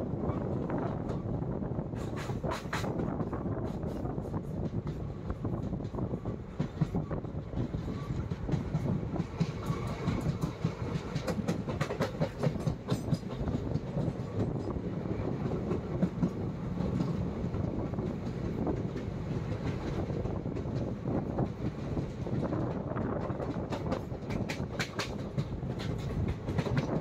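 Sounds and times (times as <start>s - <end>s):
train rumbling on track: 0.0s - 27.0s
wheels clicking on rails: 1.9s - 14.8s, 15.4s - 27.0s.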